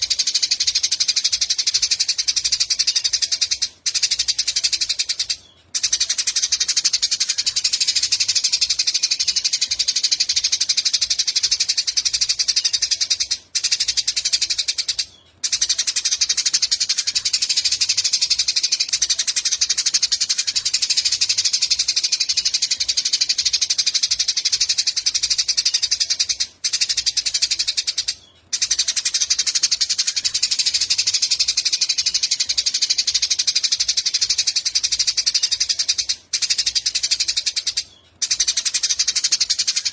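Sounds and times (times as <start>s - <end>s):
sparrow chirping: 0.0s - 39.9s.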